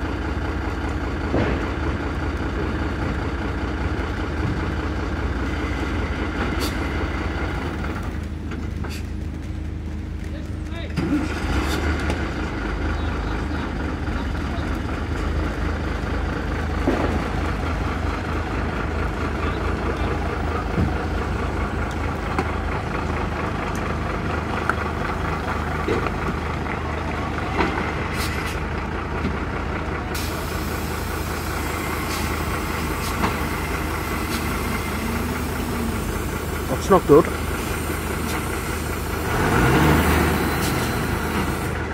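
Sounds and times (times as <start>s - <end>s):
diesel lorry engine under load: 0.0s - 41.9s.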